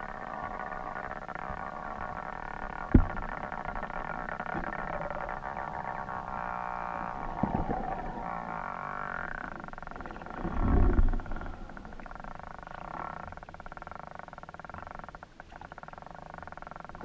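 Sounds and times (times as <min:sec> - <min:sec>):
underwater buzzing drone: 0:00.0 - 0:17.0.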